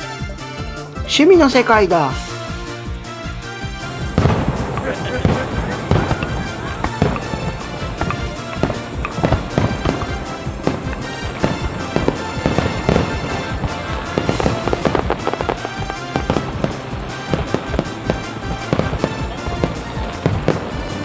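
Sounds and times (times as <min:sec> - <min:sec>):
music playing: 0:00.0 - 0:21.0
firework shells bursting: 0:02.2 - 0:21.0.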